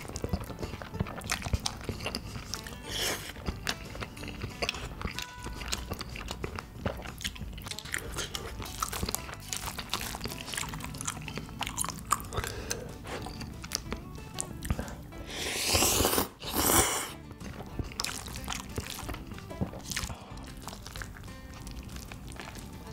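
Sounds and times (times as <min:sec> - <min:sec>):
chewing noodles: 0:00.0 - 0:22.9
wet mouth clicks: 0:00.0 - 0:22.9.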